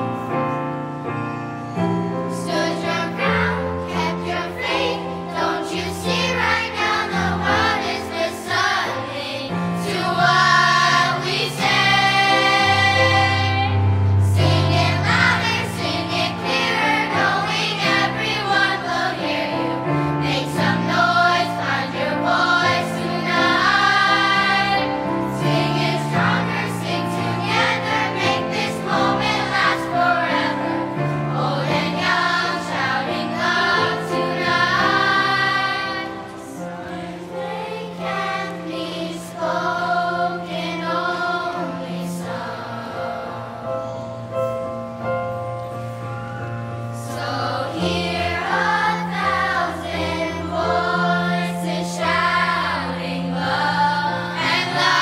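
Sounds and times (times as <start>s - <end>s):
school choir singing: 2.1s - 44.6s, 46.4s - 55.0s.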